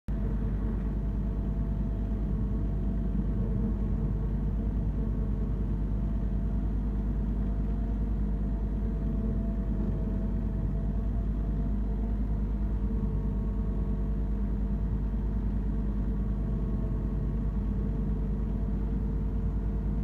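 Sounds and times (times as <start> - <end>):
tractor diesel engine running: 0.1 - 20.0.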